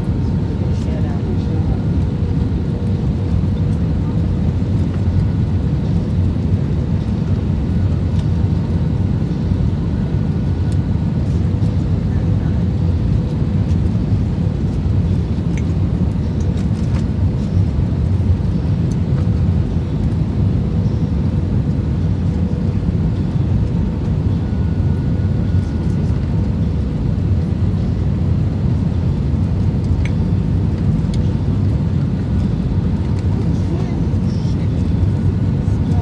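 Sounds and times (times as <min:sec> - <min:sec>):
jet engines rumbling in cabin: 0:00.0 - 0:36.0.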